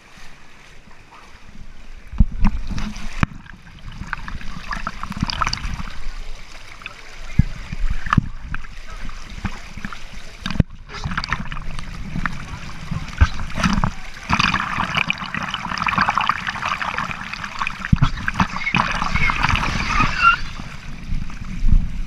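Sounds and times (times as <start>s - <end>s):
water rushing down a slide: 2.4s - 21.9s.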